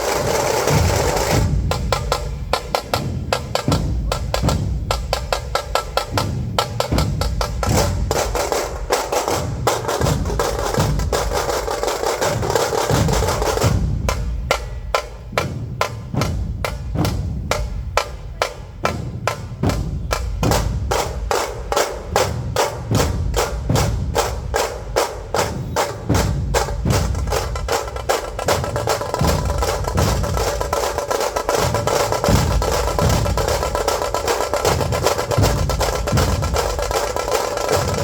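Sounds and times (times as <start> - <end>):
dhol drumming: 0.0 - 38.0.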